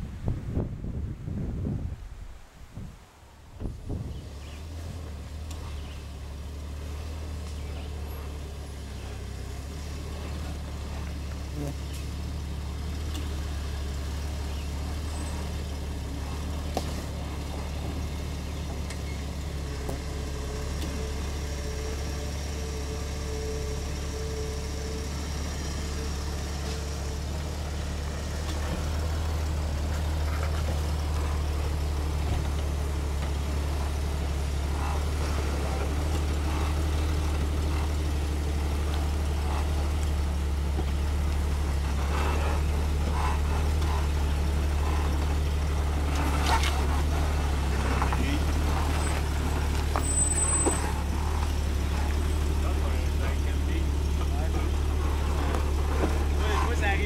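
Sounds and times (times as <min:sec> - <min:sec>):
engine droning at low revs: 0:00.0 - 0:57.0.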